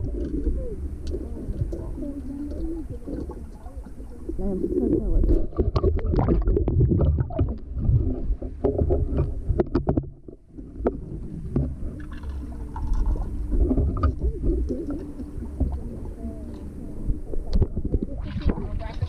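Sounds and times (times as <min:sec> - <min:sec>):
pool water sloshing and splashing: 0:00.0 - 0:19.0.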